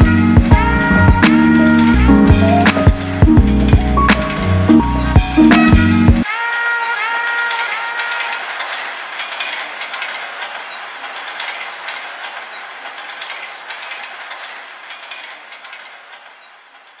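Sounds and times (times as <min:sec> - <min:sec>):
railcar rolling along rails: 0:00.0 - 0:17.0.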